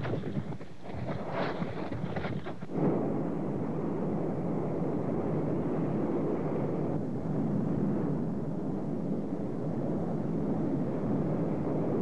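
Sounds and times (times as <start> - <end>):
lava fountaining roar: 0.0 - 12.0.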